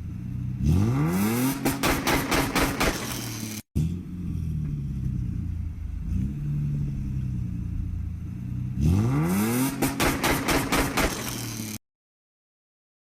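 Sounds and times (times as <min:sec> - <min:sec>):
car engine idling and revving: 0:00.0 - 0:11.8.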